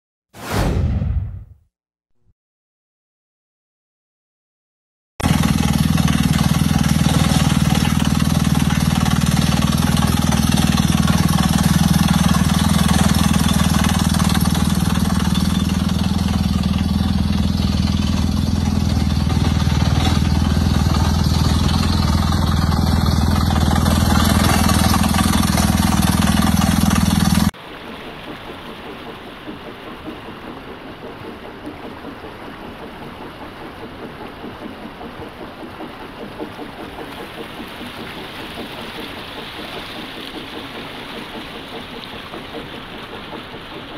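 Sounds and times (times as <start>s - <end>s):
drilling rig engine running: 5.2s - 27.6s, 28.5s - 43.9s.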